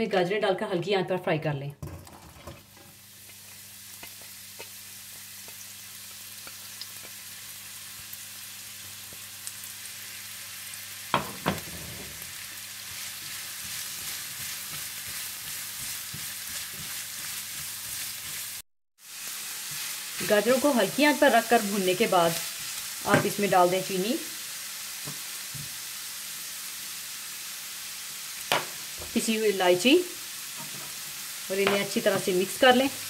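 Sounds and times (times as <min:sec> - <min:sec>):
carrots sizzling in a frying pan: 0:01.9 - 0:33.0.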